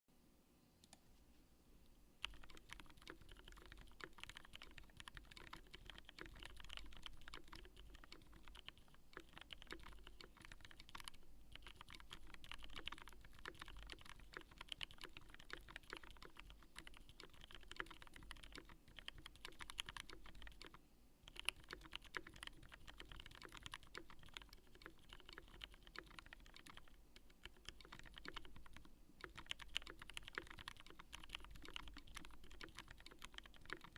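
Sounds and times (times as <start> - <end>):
mechanical keyboard typing: 2.2 - 33.9.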